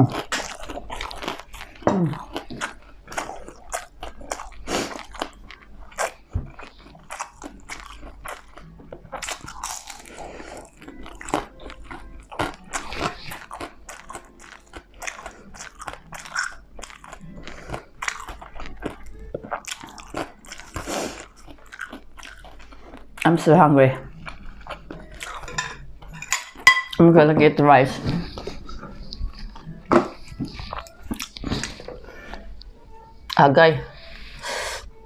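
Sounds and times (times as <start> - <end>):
crunchy chewing: 0.0 - 23.4, 24.0 - 26.7, 28.2 - 32.7.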